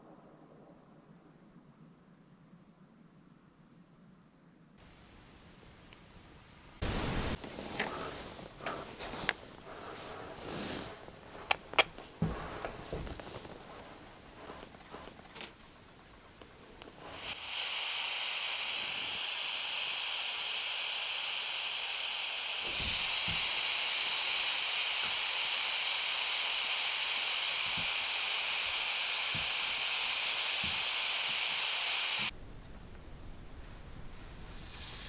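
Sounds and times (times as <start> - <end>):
loud static-like hiss: 4.8 - 35.0.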